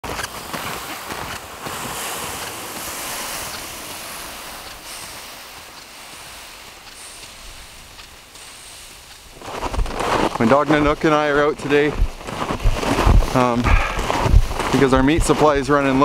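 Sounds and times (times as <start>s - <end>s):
plastic toboggan sliding on snow: 0.0s - 16.0s
snowshoes crunching in snow: 0.0s - 16.0s.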